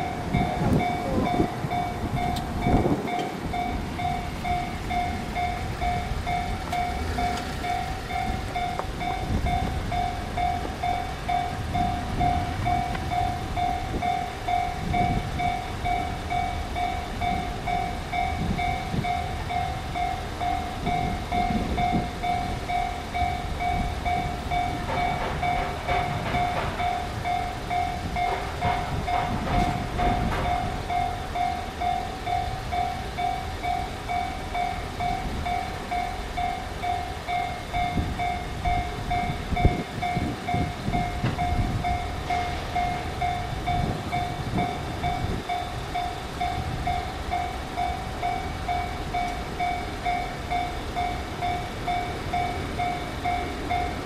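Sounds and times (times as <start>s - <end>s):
level crossing warning bell: 0.0s - 54.0s.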